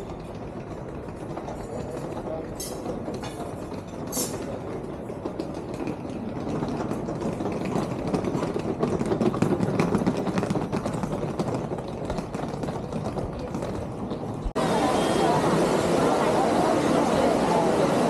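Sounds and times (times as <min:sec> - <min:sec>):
suitcase wheels rattling on cobblestones: 0:00.0 - 0:14.7.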